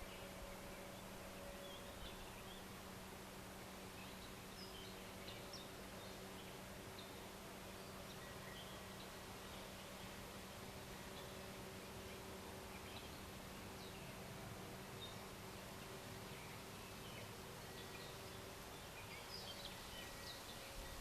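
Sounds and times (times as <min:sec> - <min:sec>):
low steady hum: 0:00.0 - 0:21.0
steady hiss: 0:00.0 - 0:21.0.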